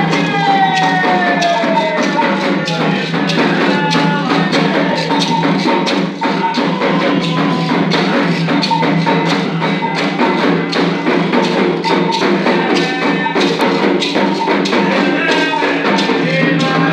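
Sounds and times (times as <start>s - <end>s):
music with quick percussive beat: 0.0s - 16.9s.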